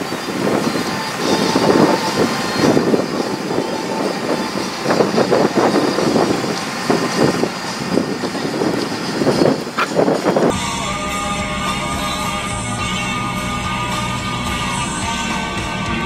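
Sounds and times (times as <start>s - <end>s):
off-road truck engine under load: 0.0s - 16.0s.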